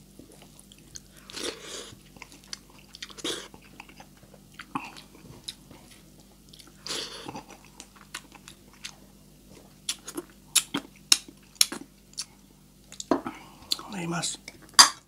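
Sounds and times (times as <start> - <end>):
wet chewing and smacking: 0.2 - 13.1.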